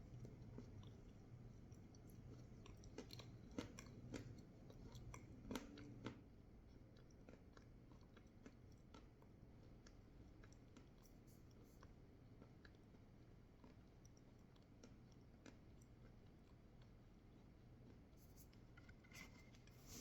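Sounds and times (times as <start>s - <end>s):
chewing crunchy food: 0.0s - 19.8s.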